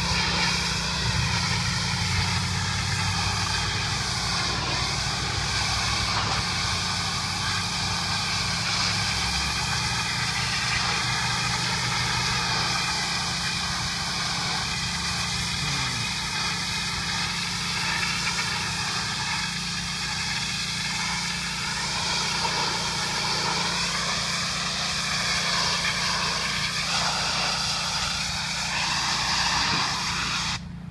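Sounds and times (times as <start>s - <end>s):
constant high hiss: 0.0s - 30.6s
engine running: 0.0s - 30.9s.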